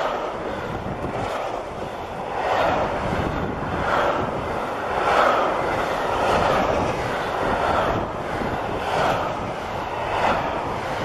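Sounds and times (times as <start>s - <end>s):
freight train wheel-on-rail roar: 0.0s - 11.0s.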